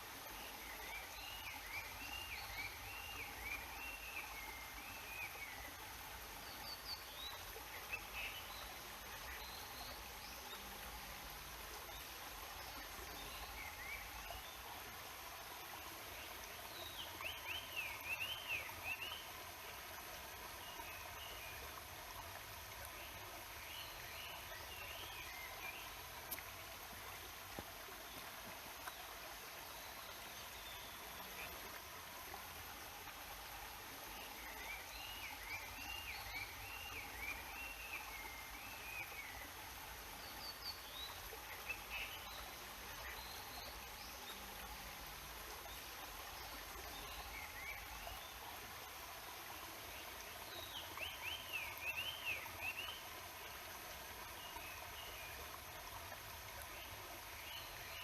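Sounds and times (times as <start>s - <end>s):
flowing river murmur: 0.0s - 58.0s.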